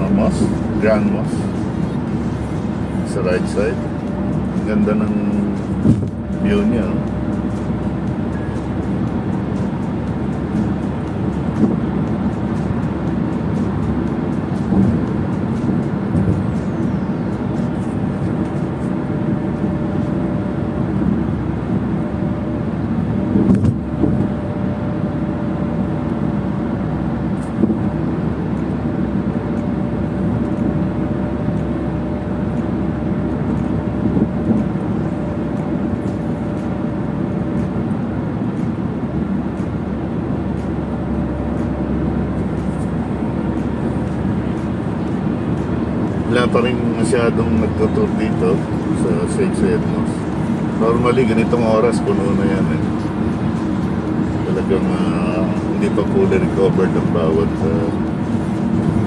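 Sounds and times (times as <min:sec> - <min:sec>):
car interior road rumble: 0:00.0 - 0:59.0.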